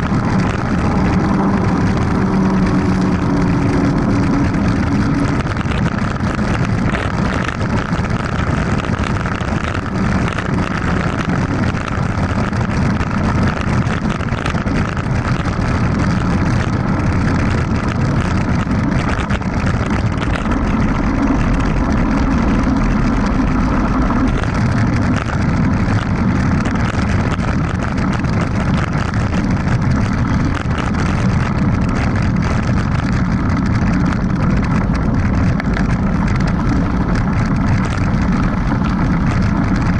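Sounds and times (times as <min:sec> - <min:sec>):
bike tyres rumbling over dirt: 0:00.0 - 0:39.9
wind buffeting microphone: 0:00.0 - 0:39.9.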